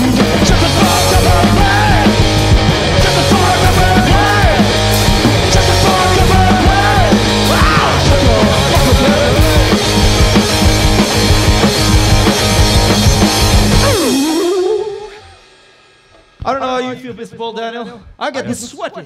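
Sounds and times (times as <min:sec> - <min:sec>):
distorted electric guitar: 0:00.0 - 0:16.5
punk rock band playing: 0:00.0 - 0:17.2.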